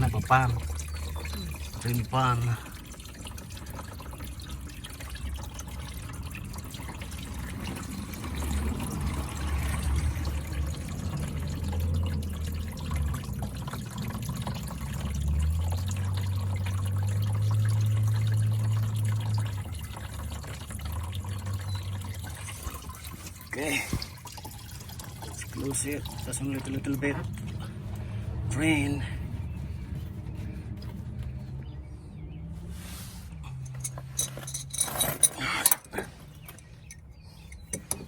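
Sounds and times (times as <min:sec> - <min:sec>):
coolant draining and splashing: 0:00.0 - 0:38.0.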